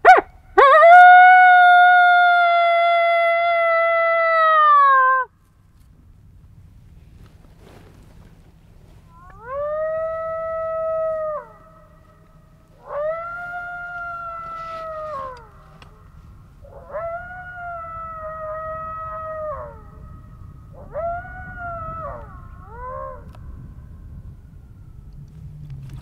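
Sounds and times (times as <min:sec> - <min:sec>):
coyote howls through a caller: 0:00.0 - 0:05.3, 0:09.1 - 0:25.2.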